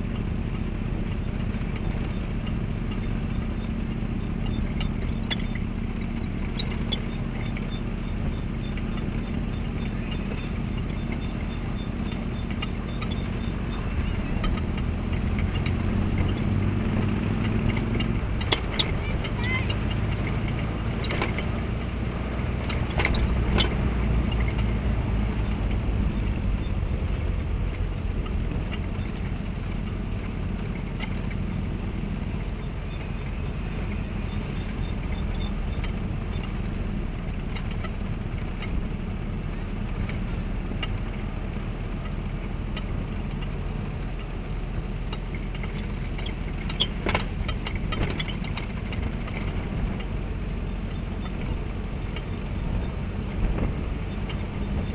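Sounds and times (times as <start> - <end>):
motorcycle engines rumbling: 0.0 - 54.9.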